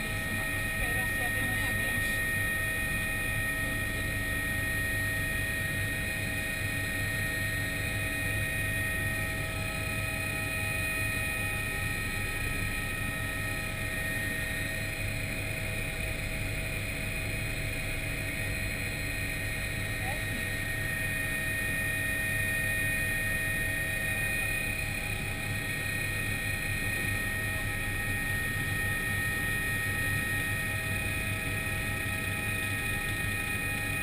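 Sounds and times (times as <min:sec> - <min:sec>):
constant high whine: 0:00.0 - 0:34.0
helicopter rotor and engine drone: 0:00.0 - 0:34.0.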